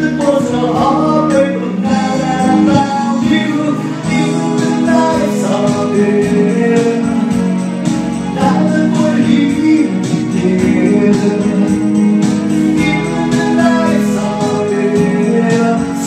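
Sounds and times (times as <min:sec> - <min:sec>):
man singing into a microphone: 0:00.0 - 0:16.0
recorded backing track: 0:00.0 - 0:16.0.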